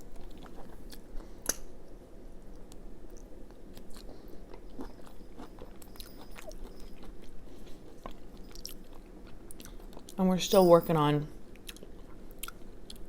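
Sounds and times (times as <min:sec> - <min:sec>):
person chewing food: 0:00.0 - 0:01.6, 0:02.4 - 0:10.2, 0:11.4 - 0:13.0.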